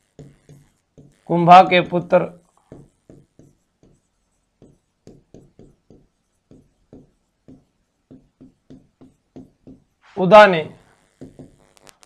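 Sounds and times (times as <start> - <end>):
marker pen writing on whiteboard: 0.0 - 11.7.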